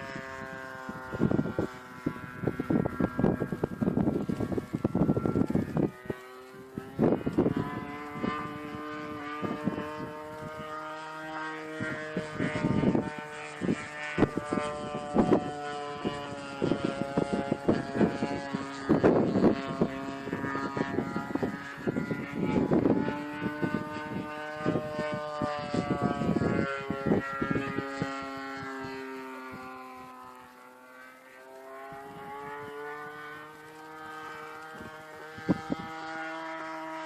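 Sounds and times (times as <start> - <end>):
biplane engine drone: 0.0 - 37.0
wind buffeting microphone: 0.0 - 37.0.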